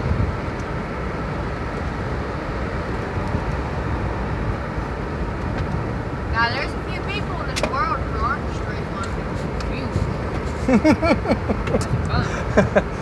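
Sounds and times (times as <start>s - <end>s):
wind noise: 0.0s - 7.6s, 8.4s - 13.0s
road noise inside car: 0.0s - 13.0s.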